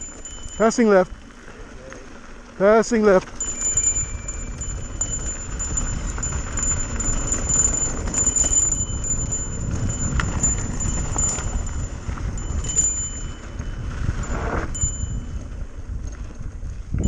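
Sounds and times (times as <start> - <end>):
bike clicks and rattles: 0.0 - 17.0
tyre rumble: 0.0 - 17.0
wind buffeting microphone: 3.3 - 17.0.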